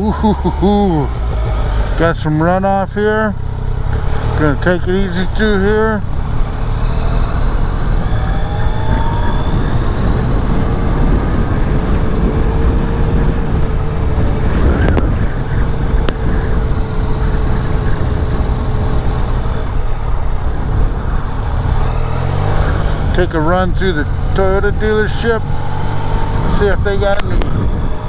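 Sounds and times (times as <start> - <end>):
motorcycle engine running: 0.0 - 28.0
wind rumble on microphone: 0.0 - 28.0.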